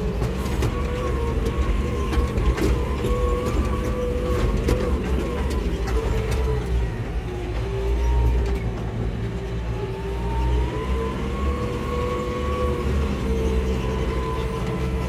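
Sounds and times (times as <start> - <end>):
diesel engine rumble with whine: 0.0 - 15.0.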